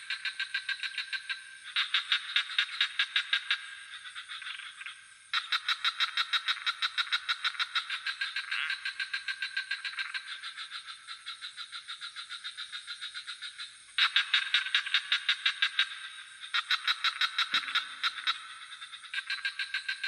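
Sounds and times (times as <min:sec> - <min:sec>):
frogs croaking in chorus: 0:00.0 - 0:20.0
high-pitched insect trill: 0:00.0 - 0:20.0.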